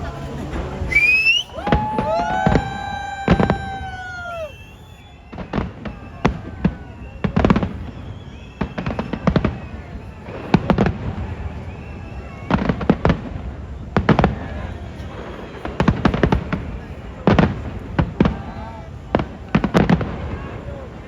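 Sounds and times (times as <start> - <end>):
fireworks bursting with loud bangs: 0.0 - 21.0
fireworks crackling: 0.0 - 21.0.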